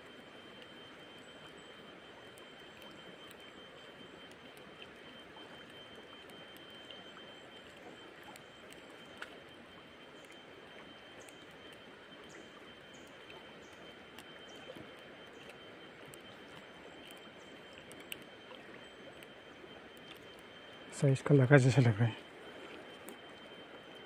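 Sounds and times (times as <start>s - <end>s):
thin high tone: 0.1s - 24.0s.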